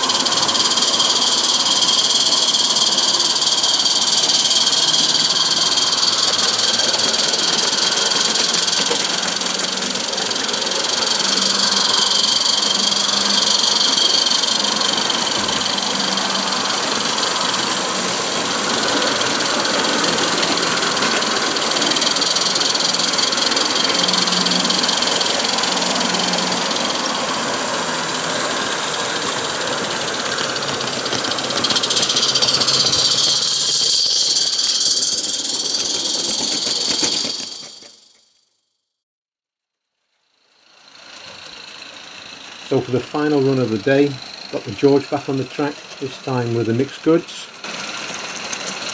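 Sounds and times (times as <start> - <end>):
model train rattling: 0.0 - 38.4, 40.8 - 48.9
model steam locomotive chuffing: 0.0 - 38.5, 40.3 - 48.9.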